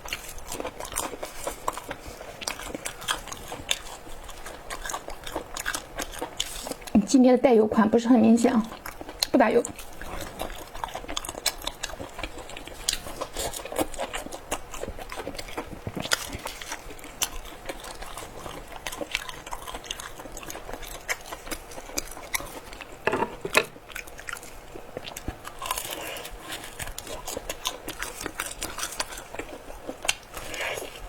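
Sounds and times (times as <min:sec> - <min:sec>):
crunchy chewing of fried food: 0:00.0 - 0:07.0, 0:08.3 - 0:31.0.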